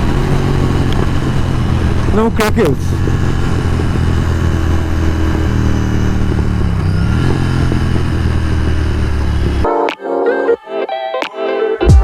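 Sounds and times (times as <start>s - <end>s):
motorcycle engine droning: 0.0s - 9.7s.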